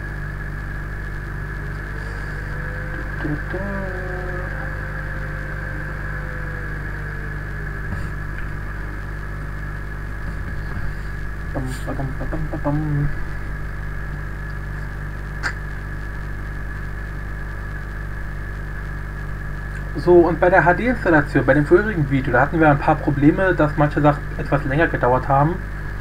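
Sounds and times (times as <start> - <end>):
electrical mains hum: 0.0 - 26.0
microphone line hiss: 0.0 - 26.0.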